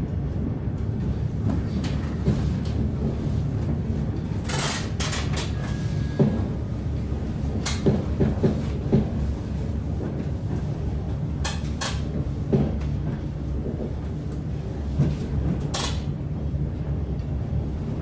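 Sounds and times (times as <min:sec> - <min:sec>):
train running rumble: 0:00.0 - 0:18.0
train car knocks and rattles: 0:00.8 - 0:16.6.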